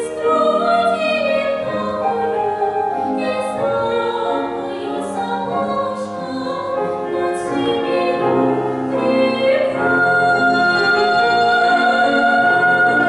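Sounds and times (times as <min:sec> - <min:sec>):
grand piano accompaniment: 0:00.0 - 0:13.0
woman singing: 0:00.0 - 0:13.0.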